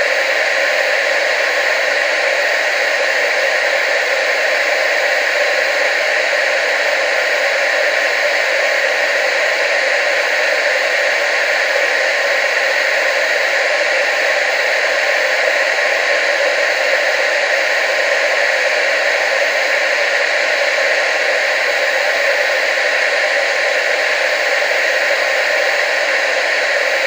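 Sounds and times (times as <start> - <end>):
tv static hiss: 0.0 - 27.0.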